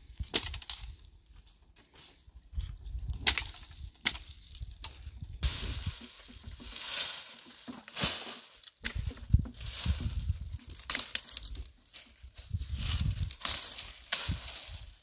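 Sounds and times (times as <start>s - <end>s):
dry branches snapping: 0.2s - 1.0s, 3.1s - 12.2s, 12.8s - 15.0s
brush rustling: 1.3s - 15.0s.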